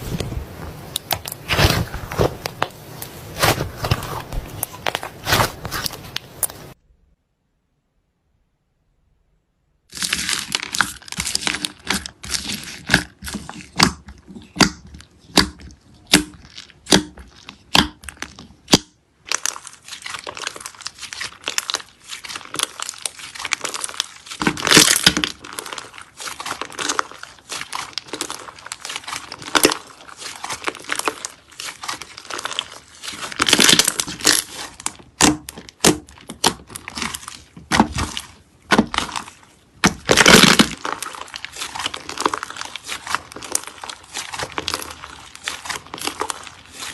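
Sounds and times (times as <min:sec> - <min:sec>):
slime crackling and popping: 0:00.0 - 0:06.8, 0:09.9 - 0:46.9.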